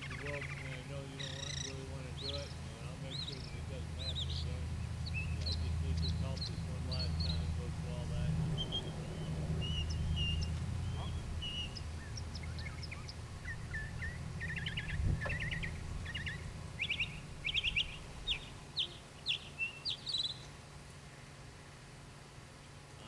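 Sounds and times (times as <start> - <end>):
birds chirping and trilling: 0.0 - 20.6
low steady hum: 0.0 - 23.0.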